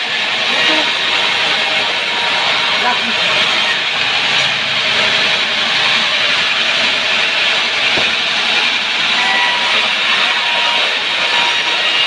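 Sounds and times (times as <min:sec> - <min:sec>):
sawmill saw cutting log: 0:00.0 - 0:12.0.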